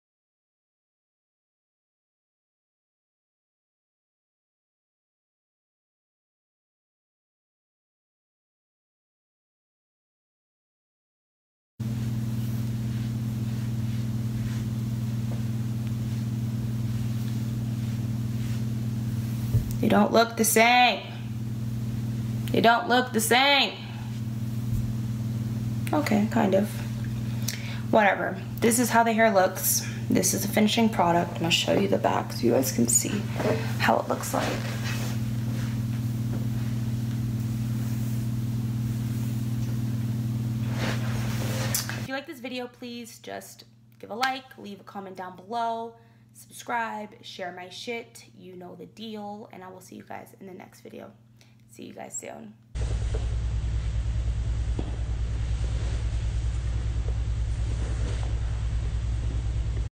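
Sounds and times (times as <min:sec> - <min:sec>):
low electrical hum: 0:11.8 - 0:59.9.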